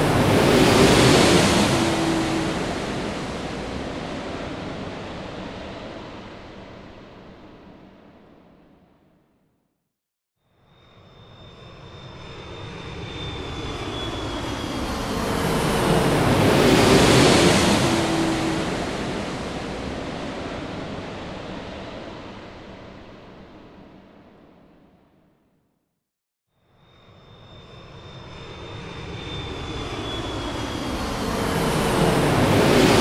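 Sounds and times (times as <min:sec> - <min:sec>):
airplane flying over: 0:00.0 - 0:08.0, 0:10.8 - 0:24.1, 0:26.9 - 0:33.0.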